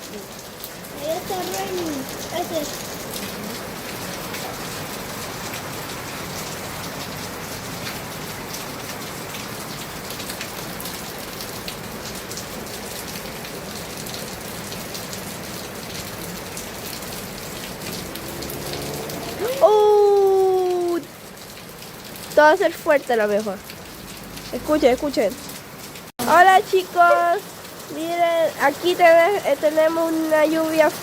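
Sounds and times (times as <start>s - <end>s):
heavy rain pattering: 0.0s - 31.0s.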